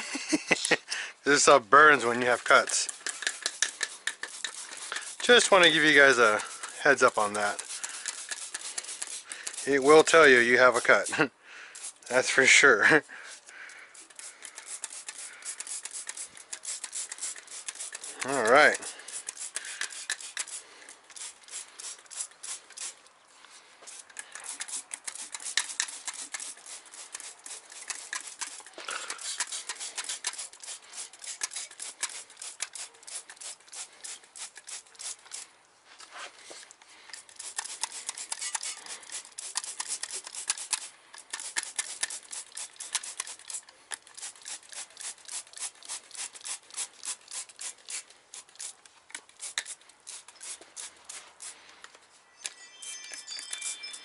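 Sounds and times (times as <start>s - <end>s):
spray bottle squirting: 2.0s - 12.4s, 13.2s - 23.1s, 23.9s - 35.5s, 37.0s - 54.0s.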